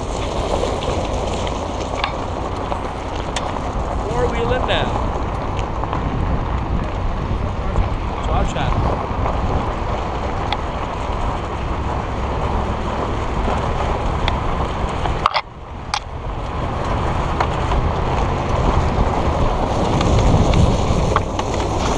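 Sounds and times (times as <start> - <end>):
tyres on gravel: 0.0 - 21.9
wind buffeting camera: 0.0 - 21.9.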